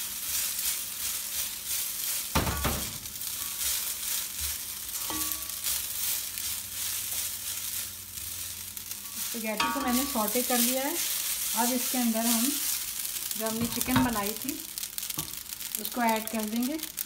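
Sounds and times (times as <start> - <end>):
noodles sizzling in a wok: 0.0 - 17.0.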